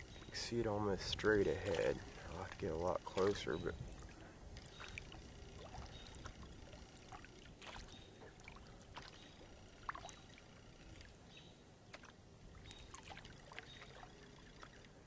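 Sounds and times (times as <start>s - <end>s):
kayak paddle dipping in water: 0.0s - 15.0s
small sharp splashes: 1.2s - 15.0s.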